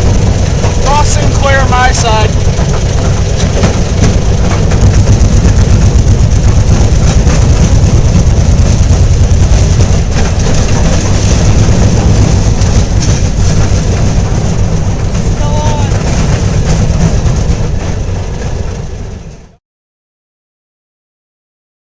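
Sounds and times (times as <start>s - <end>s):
engine running steadily: 0.0s - 19.6s.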